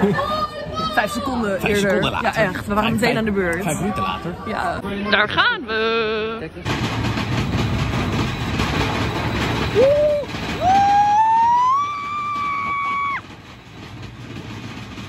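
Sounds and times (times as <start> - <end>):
roller coaster rumbling on track: 0.0 - 15.0.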